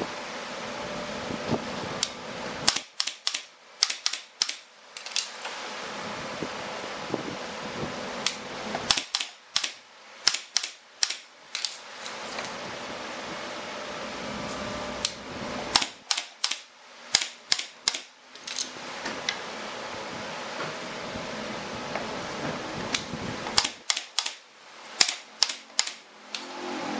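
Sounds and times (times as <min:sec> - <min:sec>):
steady background hum: 0:00.0 - 0:26.9.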